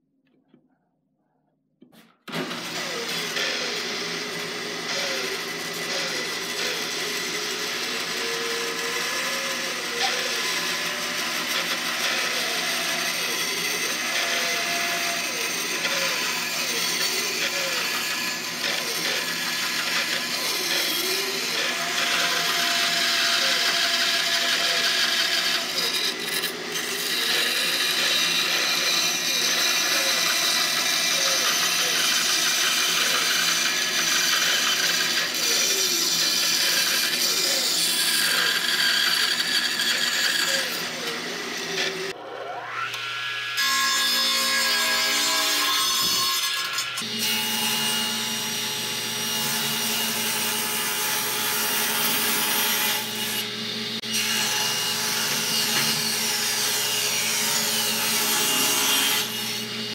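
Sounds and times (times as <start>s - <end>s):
band saw cutting wood: 1.9s - 59.9s.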